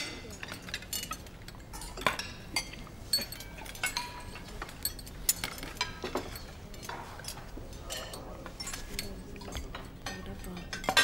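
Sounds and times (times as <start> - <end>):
spoons and dishes clinking: 0.0 - 11.0.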